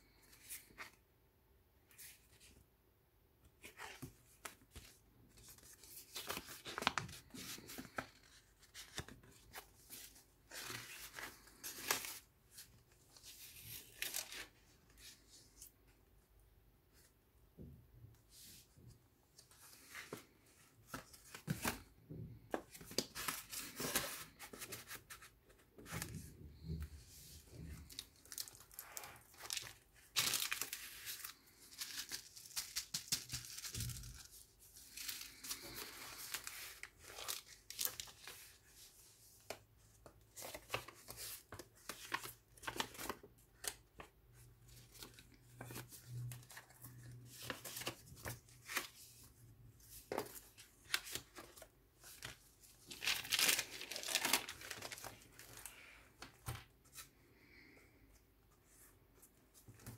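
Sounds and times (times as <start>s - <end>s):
paper and card rustling: 3.6s - 15.7s, 19.4s - 57.2s.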